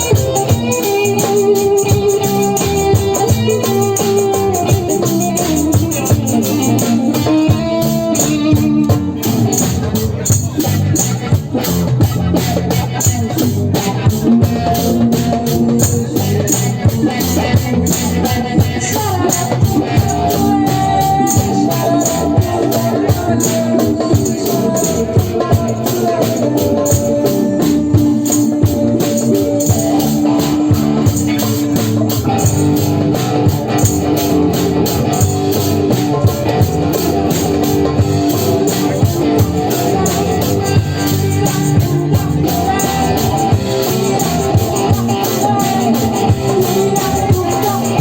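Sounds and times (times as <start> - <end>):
fast shaker-like percussion: 0.0 - 48.0.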